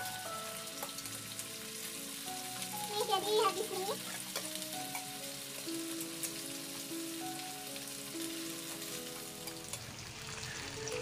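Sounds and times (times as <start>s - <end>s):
chicken sizzling on grill pan: 0.0s - 11.0s
soft background music: 0.0s - 11.0s.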